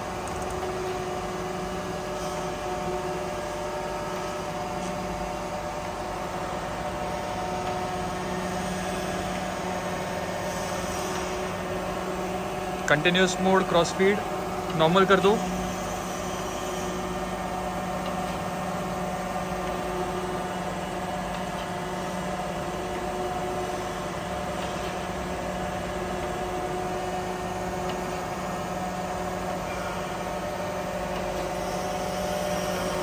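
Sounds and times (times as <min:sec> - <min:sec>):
surface grinder motors humming: 0:00.0 - 0:33.0.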